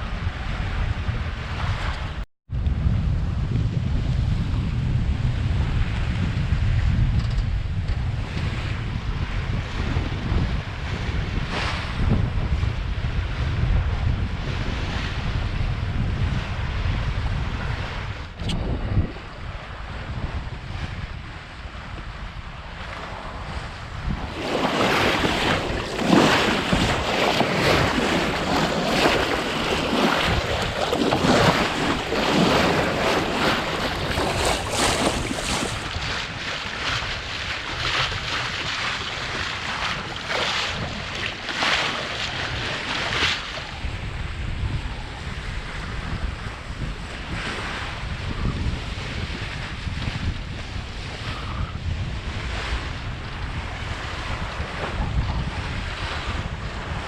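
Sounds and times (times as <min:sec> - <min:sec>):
wind buffeting microphone: 0:00.0 - 0:57.0
water splashing along hull: 0:04.0 - 0:57.0.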